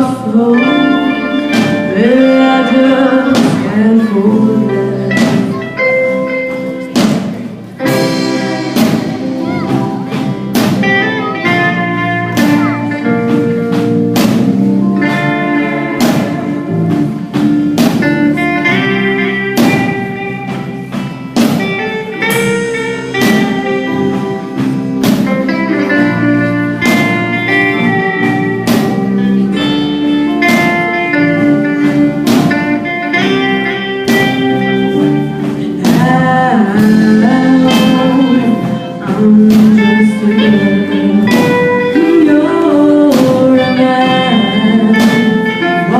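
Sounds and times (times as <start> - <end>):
drums keeping steady beat: 0.0 - 45.9
electric guitar melody: 0.0 - 45.9.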